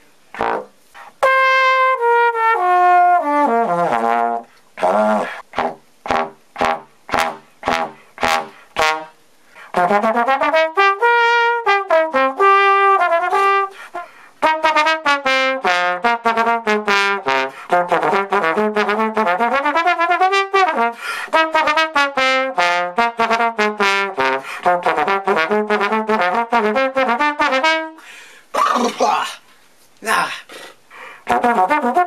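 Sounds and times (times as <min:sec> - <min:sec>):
solo trombone playing: 0:00.3 - 0:28.0, 0:31.2 - 0:32.0.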